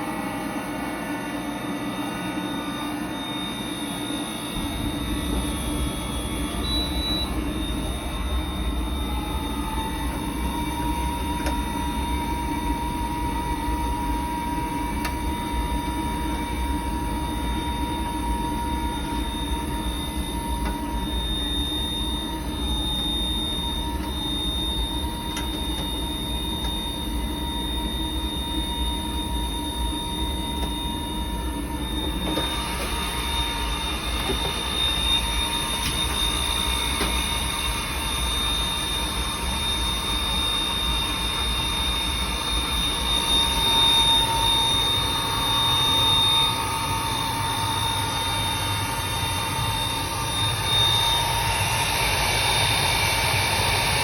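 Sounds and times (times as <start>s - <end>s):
oil burner blower squealing: 0.0s - 54.0s.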